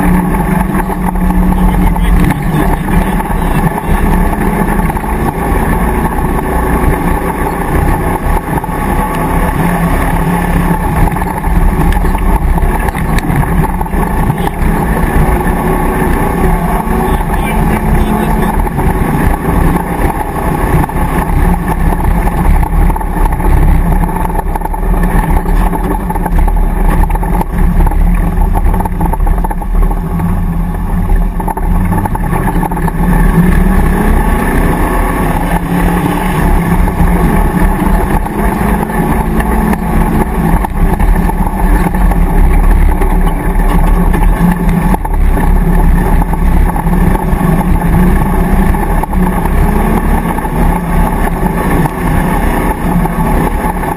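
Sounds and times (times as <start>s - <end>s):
car engine revving under load: 0.0s - 53.9s.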